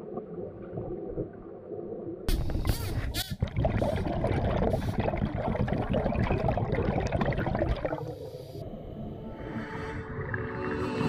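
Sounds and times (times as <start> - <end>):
underwater bubbling and gurgling: 0.0 - 11.0.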